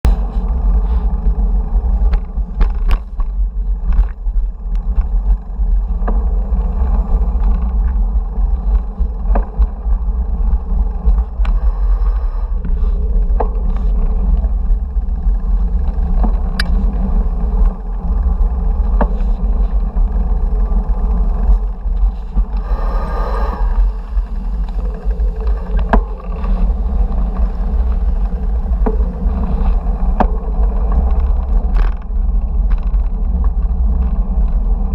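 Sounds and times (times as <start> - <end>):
road rumble: 0.0 - 34.9
wind buffeting: 0.0 - 34.9.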